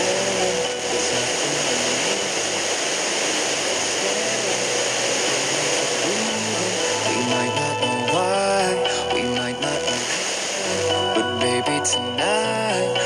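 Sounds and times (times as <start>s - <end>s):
faint radio music: 0.0s - 13.0s
radio static hiss: 0.0s - 13.0s.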